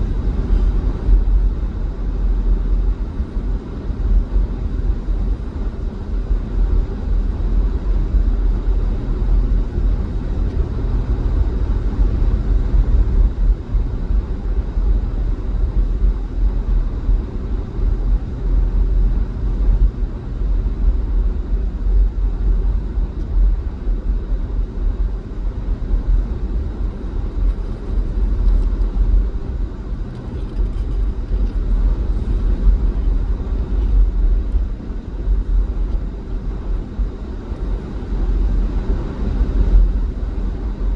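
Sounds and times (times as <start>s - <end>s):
vehicle engine and tyre rumble: 0.0s - 40.9s.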